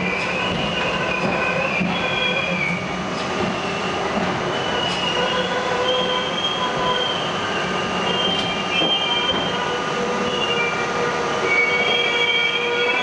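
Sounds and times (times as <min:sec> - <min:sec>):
subway wheels rumbling on rail: 0:00.0 - 0:13.0.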